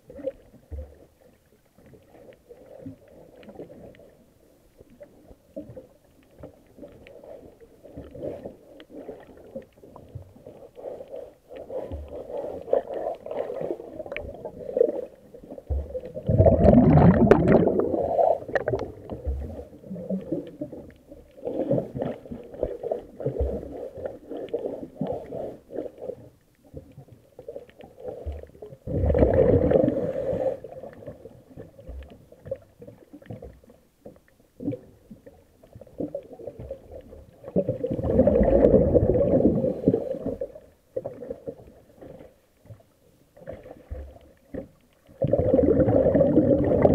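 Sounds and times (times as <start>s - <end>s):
exhaled bubbles underwater: 0.0s - 4.2s, 4.8s - 42.8s, 43.4s - 46.9s
underwater gurgling: 0.0s - 46.9s.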